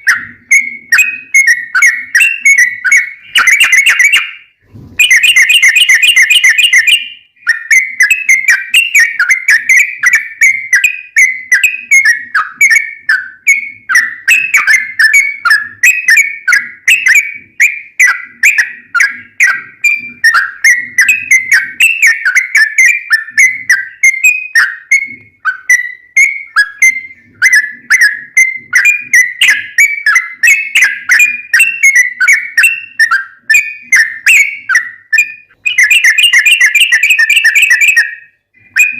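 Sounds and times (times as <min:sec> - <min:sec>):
bulbul whistled song: 0:00.0 - 0:38.9.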